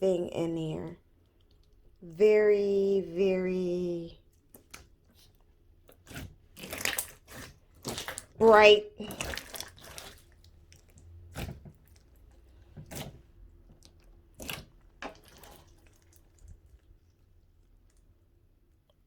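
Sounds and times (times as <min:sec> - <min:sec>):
slime squelching: 0:00.0 - 0:19.0.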